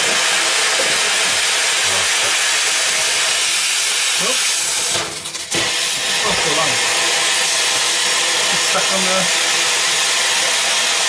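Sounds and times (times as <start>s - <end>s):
firework hissing sparks: 0.0s - 11.0s.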